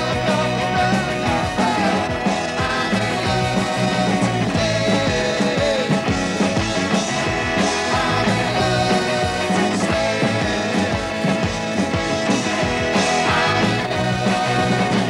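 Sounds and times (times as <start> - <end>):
person singing: 0.0 - 6.1, 7.6 - 11.5, 12.9 - 15.0
rock band playing: 0.0 - 15.0.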